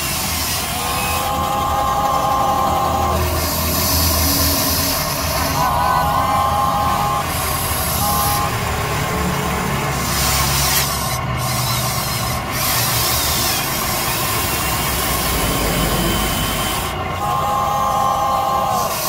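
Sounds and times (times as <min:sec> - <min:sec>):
electric motors whirring: 0:00.0 - 0:19.0.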